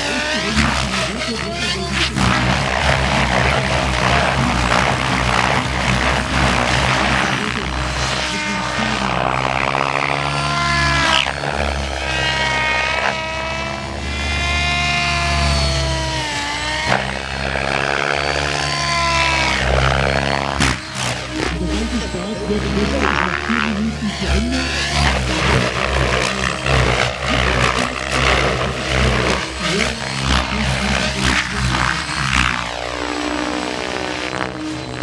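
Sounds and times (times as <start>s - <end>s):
rotor rushing noise: 0.0s - 34.9s
rc helicopter motor whine: 0.0s - 35.0s.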